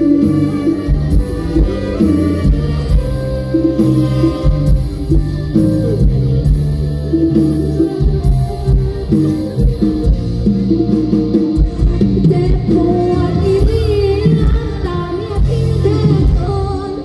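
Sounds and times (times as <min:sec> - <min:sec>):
busy melodic line: 0:00.0 - 0:17.0.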